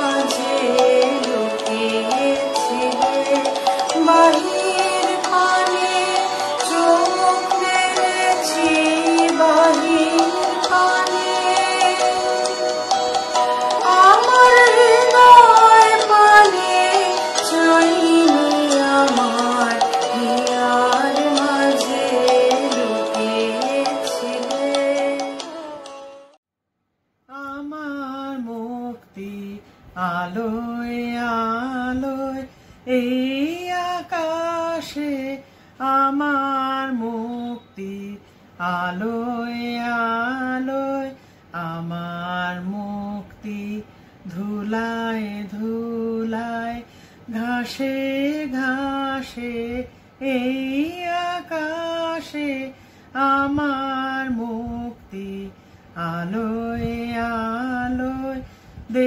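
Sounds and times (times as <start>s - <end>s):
woman singing unaccompanied: 0.0s - 26.4s, 27.3s - 59.0s.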